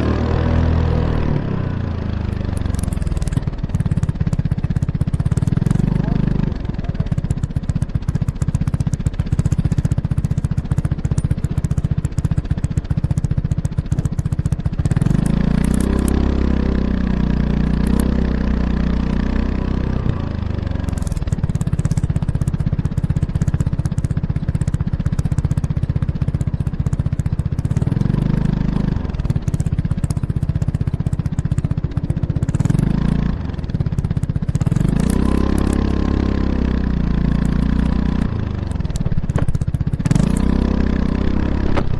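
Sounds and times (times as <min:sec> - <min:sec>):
scooter engine revving: 0:00.0 - 0:41.9.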